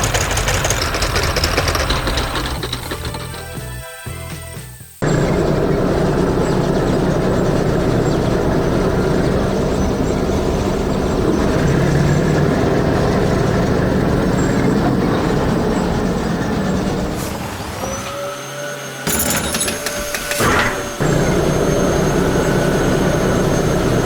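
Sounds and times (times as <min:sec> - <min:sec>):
heavy vehicle engine rumbling: 0:00.0 - 0:24.0.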